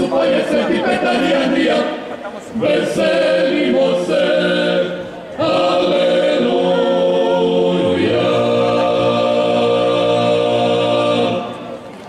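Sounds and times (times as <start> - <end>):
male choir singing a cappella: 0.0 - 11.8.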